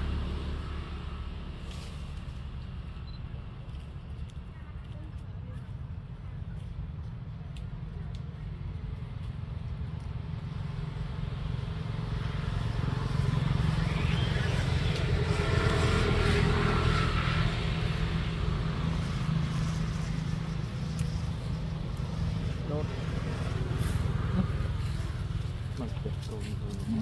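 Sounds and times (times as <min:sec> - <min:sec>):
vehicle engine rumble passing: 0:00.0 - 0:27.0.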